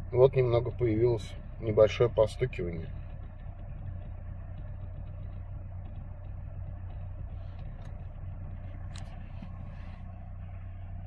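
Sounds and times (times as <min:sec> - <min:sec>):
car engine idling: 0:00.0 - 0:11.0
engine tapping: 0:00.0 - 0:11.0.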